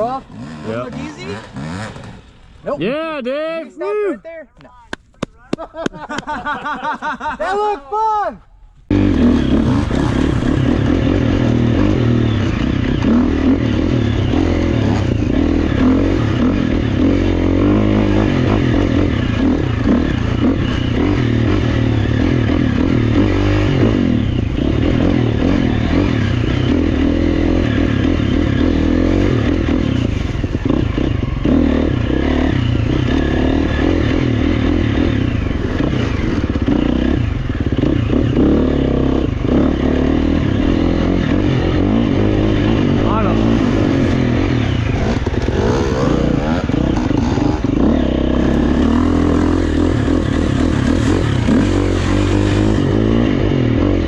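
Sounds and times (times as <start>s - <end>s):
dirt bike engine revving: 0.0s - 3.0s, 8.9s - 54.0s.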